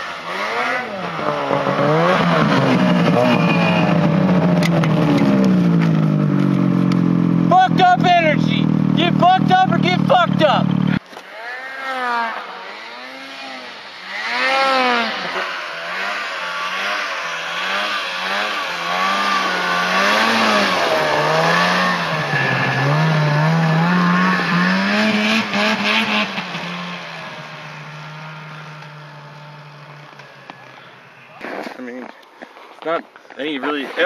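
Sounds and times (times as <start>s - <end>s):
snowmobile engine revving: 0.0s - 32.2s, 32.8s - 34.0s.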